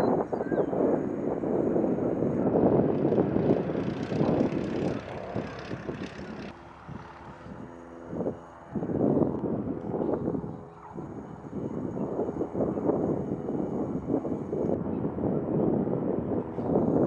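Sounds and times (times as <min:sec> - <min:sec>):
propeller airplane engine: 0:00.0 - 0:17.0.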